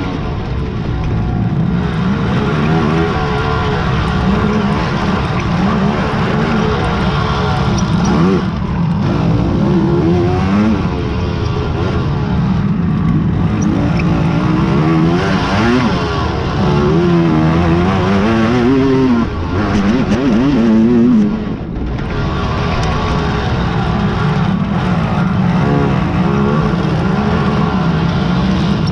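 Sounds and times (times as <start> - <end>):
racing quad engines revving: 0.0 - 28.9.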